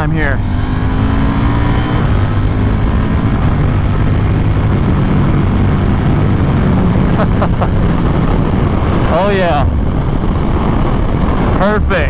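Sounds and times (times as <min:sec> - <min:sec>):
heavy wind noise: 0:00.0 - 0:12.0
motorcycle engine accelerating: 0:00.0 - 0:12.0.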